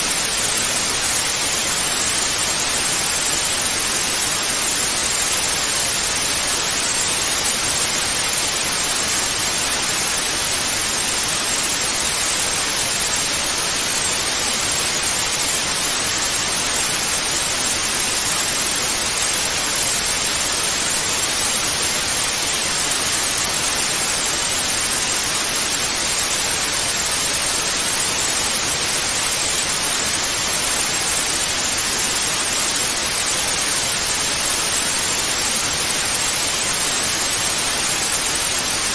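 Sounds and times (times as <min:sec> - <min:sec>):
tv static hiss: 0:00.0 - 0:38.9.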